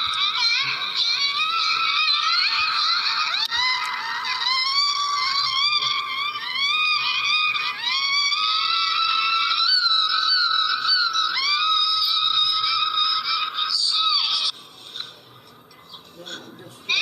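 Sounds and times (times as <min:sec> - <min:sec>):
high-pitched cartoon voice wailing: 0:00.0 - 0:14.5.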